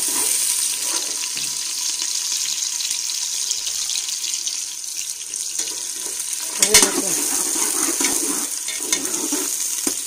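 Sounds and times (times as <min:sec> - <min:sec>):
onions sizzling in a pot: 0:00.0 - 0:10.0.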